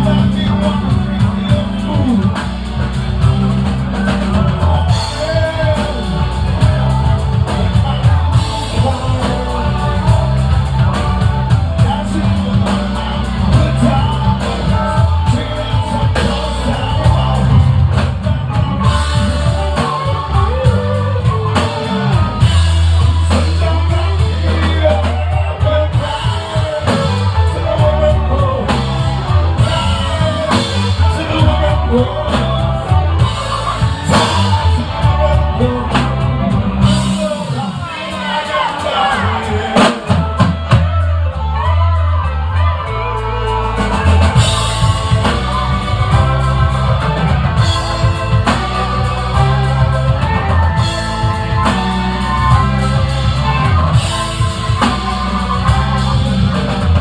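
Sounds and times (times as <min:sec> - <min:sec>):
lead singer: 0:00.0 - 0:57.0
live rock band playing: 0:00.0 - 0:57.0.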